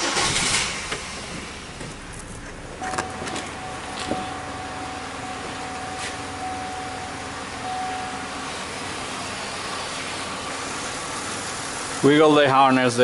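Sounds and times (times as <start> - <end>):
car engine idling: 0.0 - 13.0
thin steady whine: 1.7 - 13.0.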